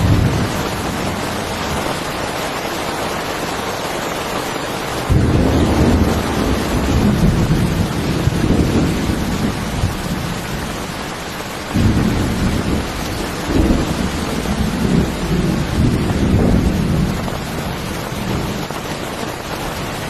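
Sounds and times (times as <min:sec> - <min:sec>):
rolling thunder: 0:00.0 - 0:02.3, 0:05.0 - 0:20.0
heavy rain falling: 0:00.0 - 0:20.0.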